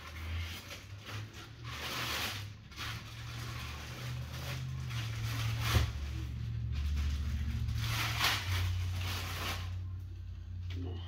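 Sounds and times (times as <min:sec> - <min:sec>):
plastic bag rustling and crinkling: 0:00.0 - 0:10.2
low steady hum: 0:00.0 - 0:11.0.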